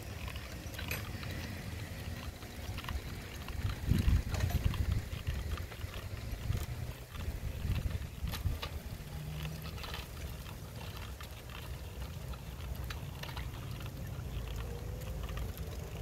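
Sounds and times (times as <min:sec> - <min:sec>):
bike wheels rolling on concrete: 0:00.0 - 0:16.0
training wheels clicking and rattling: 0:00.0 - 0:16.0.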